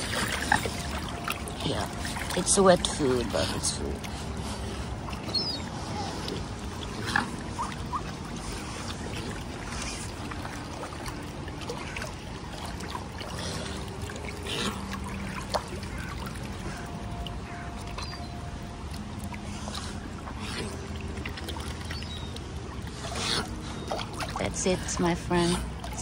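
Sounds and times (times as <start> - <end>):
small waves lapping against rocks: 0.0 - 26.0.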